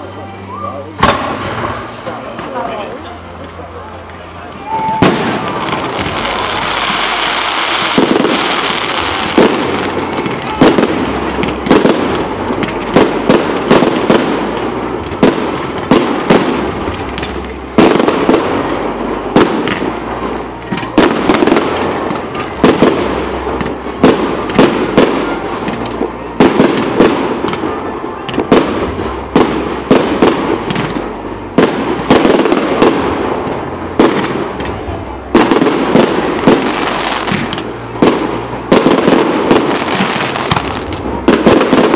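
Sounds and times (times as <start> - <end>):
dense firework din: 0.0 - 41.9
fireworks bursting: 0.0 - 41.9.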